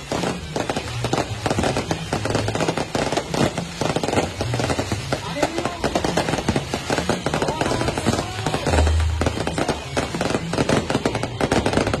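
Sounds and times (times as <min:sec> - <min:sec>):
firecrackers crackling pops: 0:00.0 - 0:12.0.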